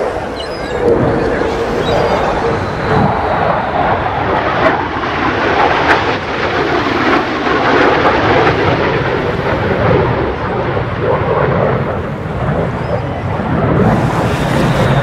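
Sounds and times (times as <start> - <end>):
jet fighters flying past: 0.0 - 15.0.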